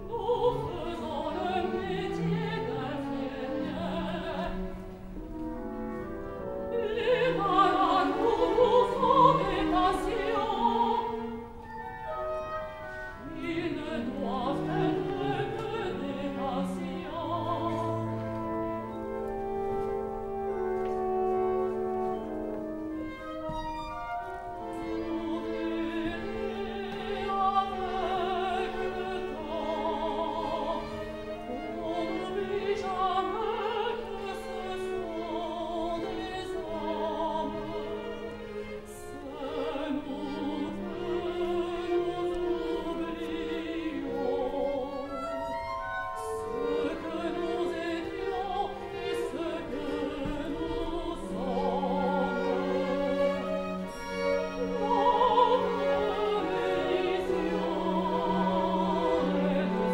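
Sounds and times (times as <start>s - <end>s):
woman singing opera: 0.0s - 59.9s.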